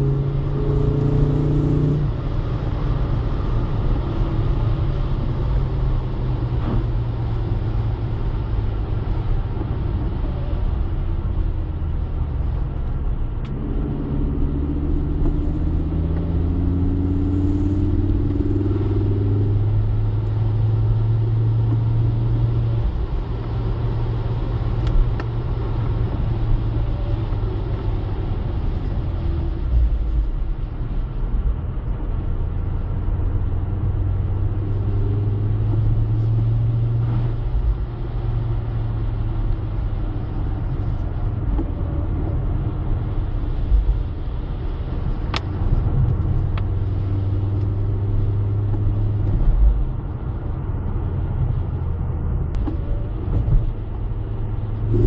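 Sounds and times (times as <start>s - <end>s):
car engine accelerating: 0.0s - 55.0s
tyre noise on wet road: 0.0s - 55.0s.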